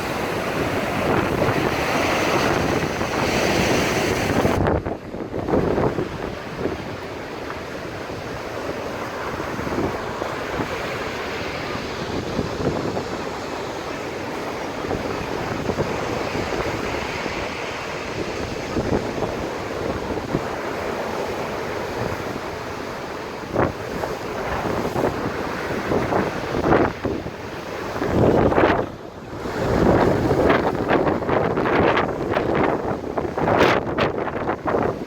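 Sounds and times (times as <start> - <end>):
waves surging: 0.0 - 35.0
wind buffeting microphone: 0.0 - 35.0.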